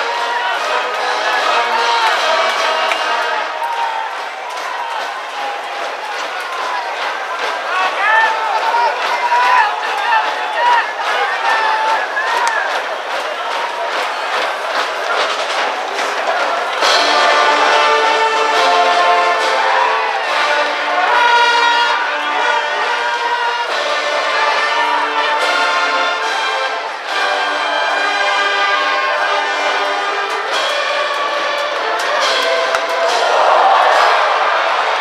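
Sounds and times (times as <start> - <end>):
brass band playing: 0.0 - 34.1.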